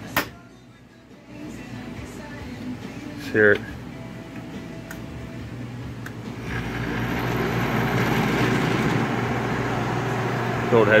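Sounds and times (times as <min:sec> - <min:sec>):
air conditioner fan running: 0:00.0 - 0:11.0
compressor humming and rushing: 0:01.2 - 0:11.0.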